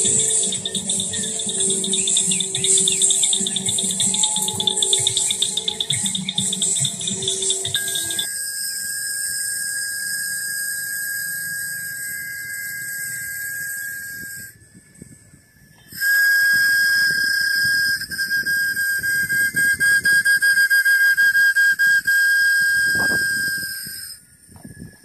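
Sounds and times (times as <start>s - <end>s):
high-pitched whistle blowing: 0.0s - 25.0s.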